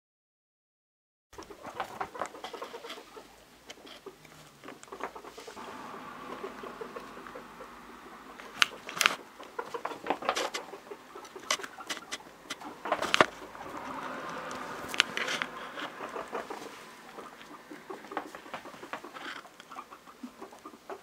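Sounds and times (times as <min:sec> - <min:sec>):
small animal feet pattering: 0:01.4 - 0:05.6, 0:08.4 - 0:21.0.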